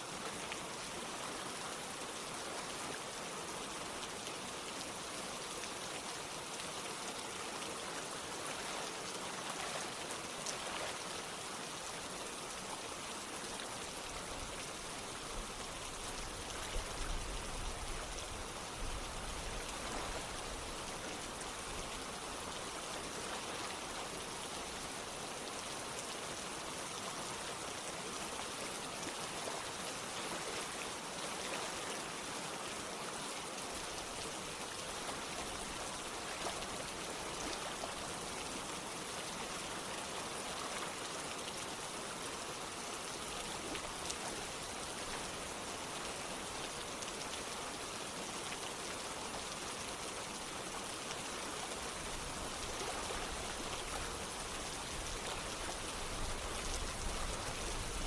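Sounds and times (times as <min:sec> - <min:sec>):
running water: 0:00.0 - 0:58.0
steady rain: 0:00.0 - 0:58.0.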